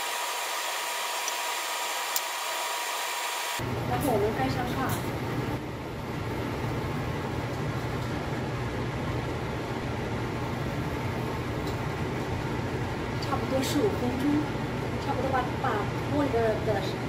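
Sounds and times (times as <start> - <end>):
gas stove hissing: 0.0 - 17.0.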